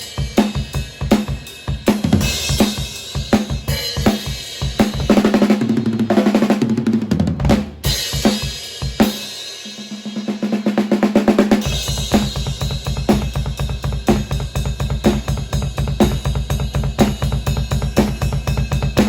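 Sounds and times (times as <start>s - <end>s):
drum kit playing fast rolls: 0.0s - 19.0s.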